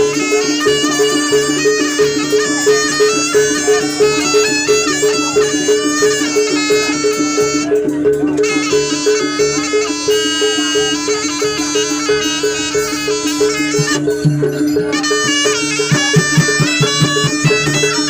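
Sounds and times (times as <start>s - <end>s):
reedy shawm melody: 0.0s - 18.0s
two-note percussion pulse: 0.0s - 18.0s.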